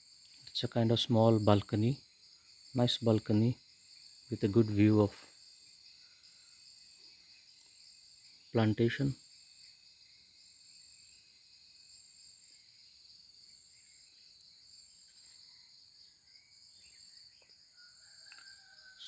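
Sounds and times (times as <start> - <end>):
insect trill pulsing: 0.0 - 19.0.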